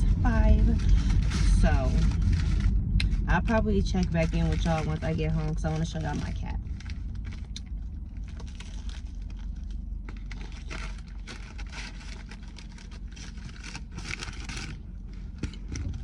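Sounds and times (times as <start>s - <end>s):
car road rumble: 0.0s - 16.0s
paper wrapper crinkling and tearing: 0.0s - 16.0s.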